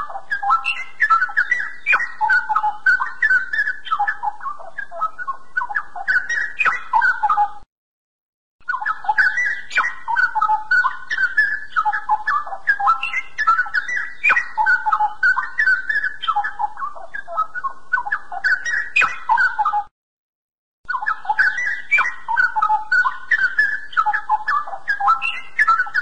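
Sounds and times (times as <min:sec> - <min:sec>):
bird warbling whistles: 0:00.0 - 0:07.6, 0:08.6 - 0:19.9, 0:20.9 - 0:26.0.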